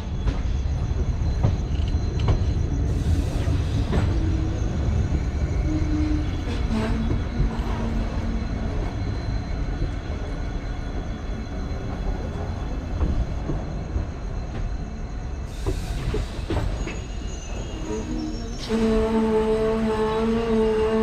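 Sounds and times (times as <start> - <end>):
train coaches rumbling on track: 0.0 - 21.0.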